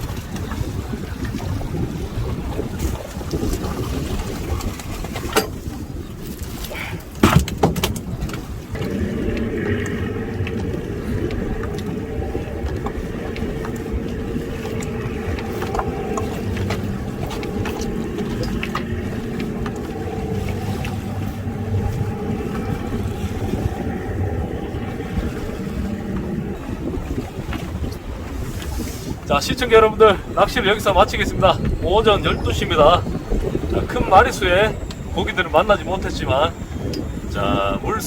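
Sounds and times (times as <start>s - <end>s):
boat motor running: 0.0s - 38.0s.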